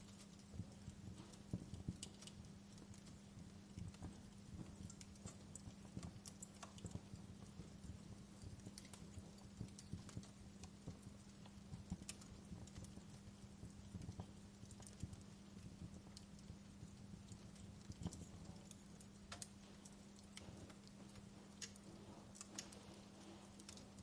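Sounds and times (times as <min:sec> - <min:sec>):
faint low hum: 0:00.0 - 0:24.0
wood fire crackling: 0:00.0 - 0:24.0.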